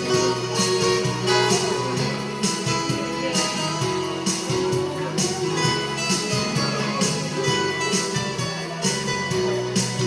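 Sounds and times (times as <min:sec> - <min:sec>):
instrumental music with beat: 0:00.0 - 0:10.0.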